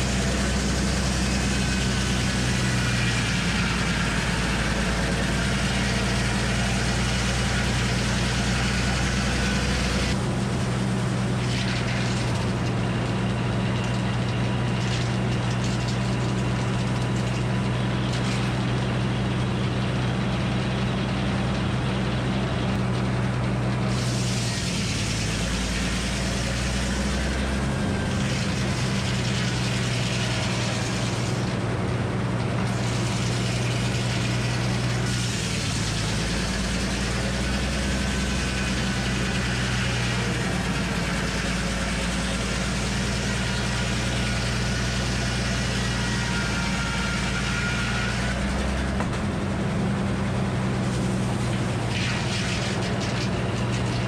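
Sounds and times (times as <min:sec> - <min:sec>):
circular saw cutting log: 0:00.0 - 0:54.0.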